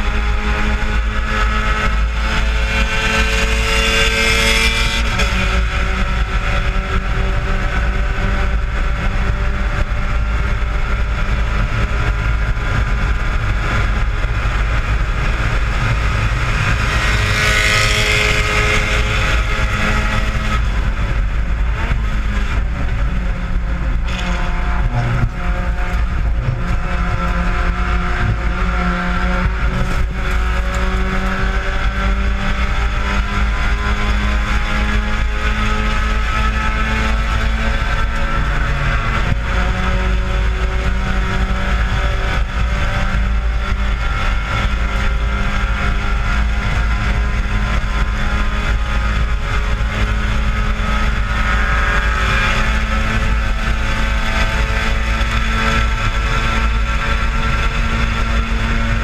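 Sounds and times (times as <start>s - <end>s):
race car engine at high revs: 0.0s - 59.0s
wind and road noise: 0.0s - 59.0s.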